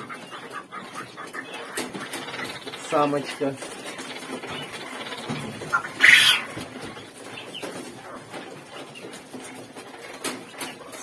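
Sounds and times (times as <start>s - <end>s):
faint bird sounds: 0.0s - 9.1s.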